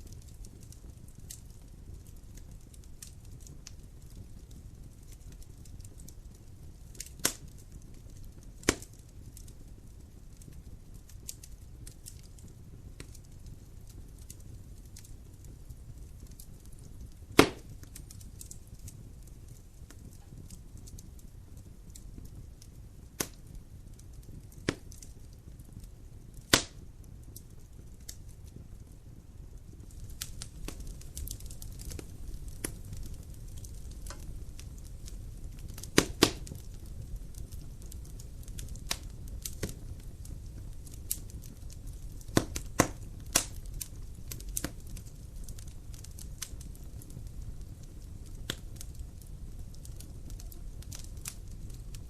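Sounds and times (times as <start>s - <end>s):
burning logs crackling and popping: 0.0s - 52.0s
low rumble of flame: 0.0s - 52.0s.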